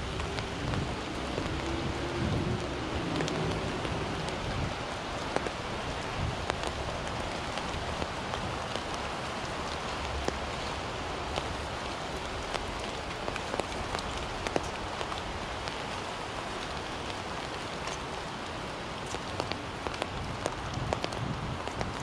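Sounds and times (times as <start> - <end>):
rain drops ticking on umbrella: 0.0 - 22.0.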